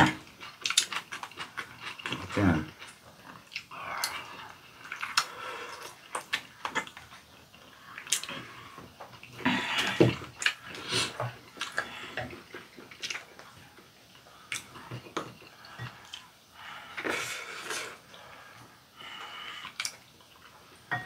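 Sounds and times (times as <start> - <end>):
wet chewing and slurping: 0.0 - 20.8.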